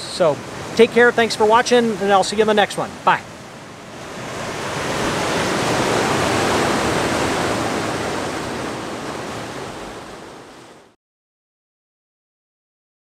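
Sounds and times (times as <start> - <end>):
surf breaking on rocky shore: 0.0 - 11.0.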